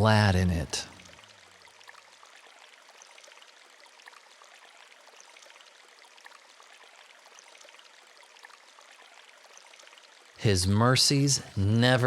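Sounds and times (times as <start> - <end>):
stream water burbling over stones: 0.2 - 11.4.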